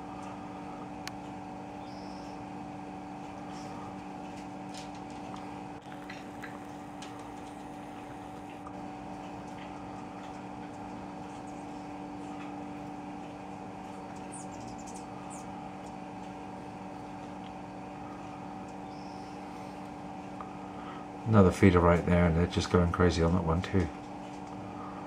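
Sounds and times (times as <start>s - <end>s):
steady multi-tone hum: 0.0s - 25.0s.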